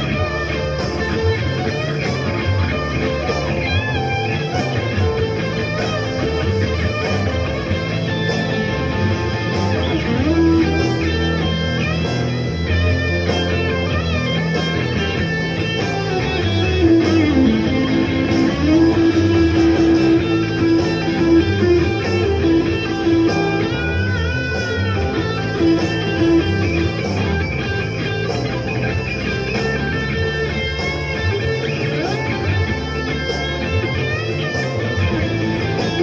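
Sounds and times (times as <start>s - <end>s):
blues guitar lead: 0.0s - 36.0s
low accompaniment: 0.0s - 36.0s.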